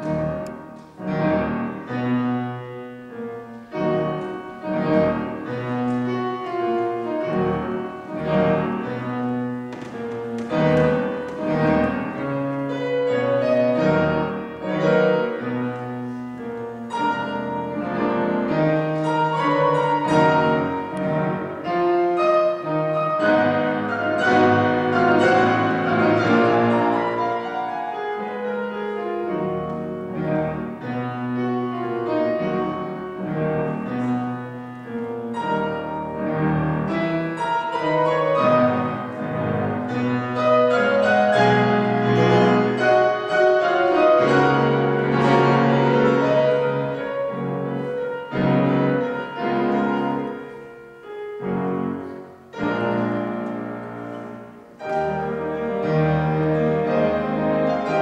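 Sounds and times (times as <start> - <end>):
classical piano duet: 0.0 - 58.0.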